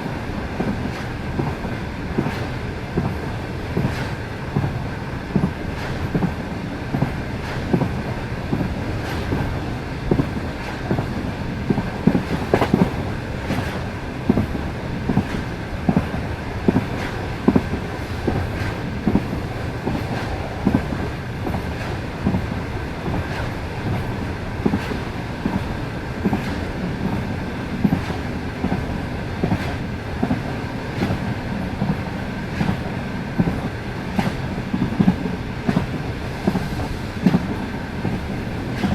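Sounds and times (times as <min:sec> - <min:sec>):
train rumble: 0:00.0 - 0:38.9
train wheels clicking on rails: 0:00.0 - 0:38.9.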